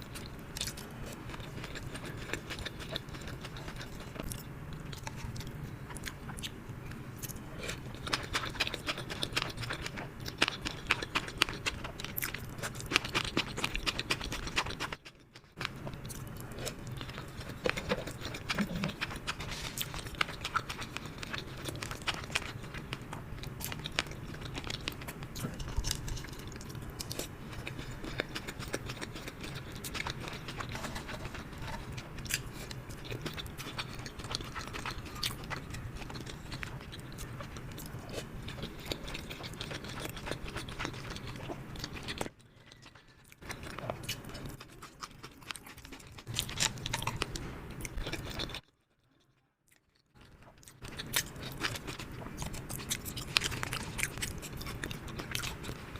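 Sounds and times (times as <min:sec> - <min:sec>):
biting and chewing food: 0:00.0 - 0:48.8, 0:49.7 - 0:55.9
steady low hum: 0:00.0 - 0:49.5.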